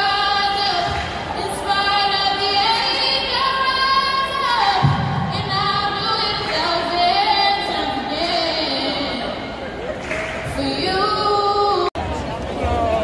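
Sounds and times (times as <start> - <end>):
woman singing into a microphone: 0.0 - 9.6, 10.4 - 12.0.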